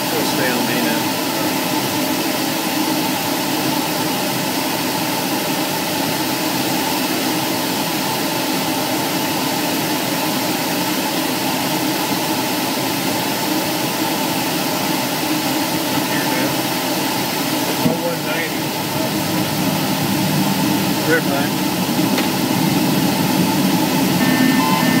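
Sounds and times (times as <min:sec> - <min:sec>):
light airplane engine droning: 0:00.0 - 0:25.0.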